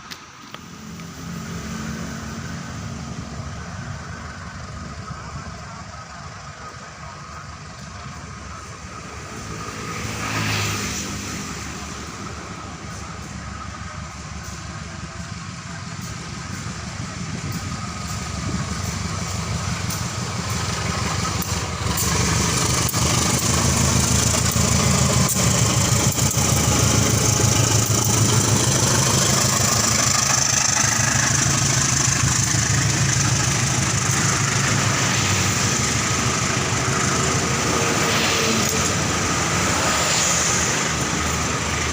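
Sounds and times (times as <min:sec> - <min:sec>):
locomotive engine drone: 0:00.0 - 0:41.9
train wheels rushing on rails: 0:00.0 - 0:41.9.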